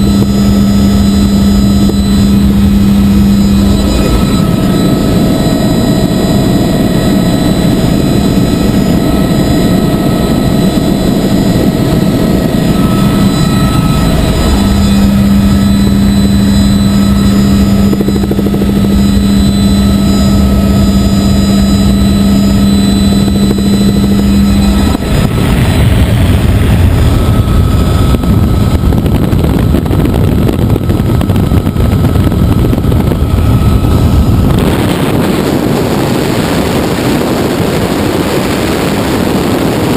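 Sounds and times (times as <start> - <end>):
helicopter rotor and turbine: 0.0 - 39.9
strong low hum: 0.0 - 39.9
wind rumbling on microphone: 0.0 - 39.9.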